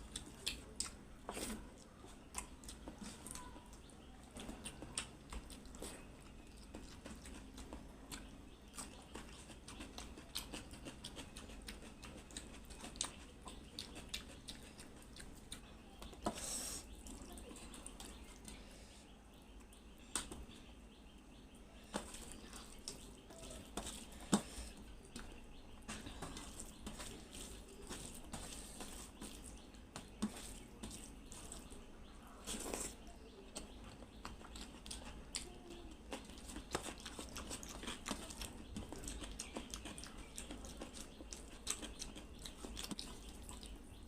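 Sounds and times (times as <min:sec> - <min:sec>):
wet chewing and smacking: 0:00.0 - 0:18.6, 0:19.5 - 0:44.0.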